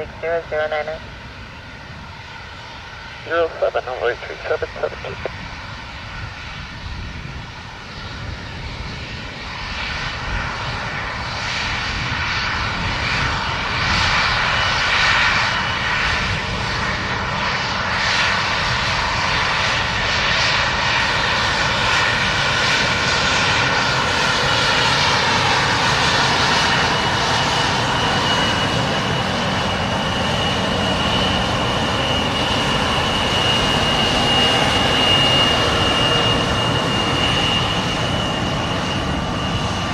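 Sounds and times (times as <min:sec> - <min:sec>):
airplane engines running: 0:00.0 - 0:39.9.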